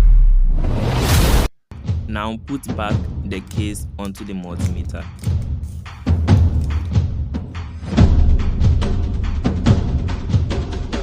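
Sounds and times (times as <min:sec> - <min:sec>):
background music: 0:01.7 - 0:11.0.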